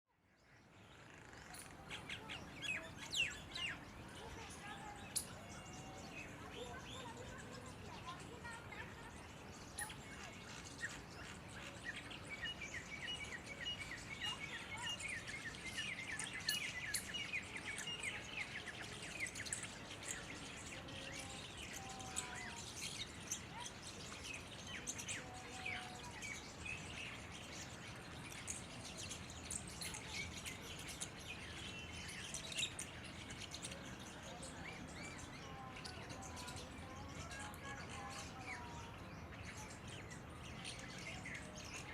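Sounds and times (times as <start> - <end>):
myna chirping and whistling: 1.3 - 37.4.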